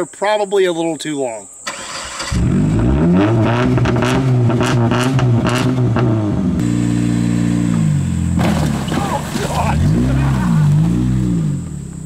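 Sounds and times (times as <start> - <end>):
car engine revving: 1.7 - 12.0.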